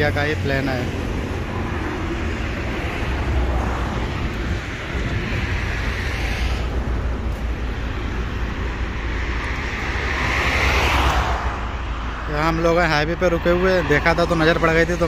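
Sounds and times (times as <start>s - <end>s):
highway traffic passing: 0.0s - 15.0s.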